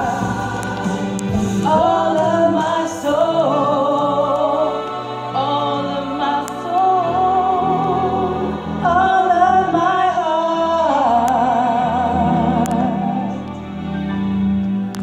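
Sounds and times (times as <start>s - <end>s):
women singing gospel: 0.0s - 13.4s
steady musical accompaniment: 0.0s - 15.0s.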